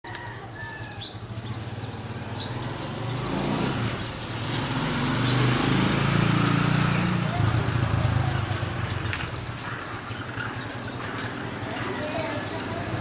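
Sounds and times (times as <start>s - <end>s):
small birds chirping: 0.0s - 13.0s
passing vehicle engine hum: 0.1s - 13.0s.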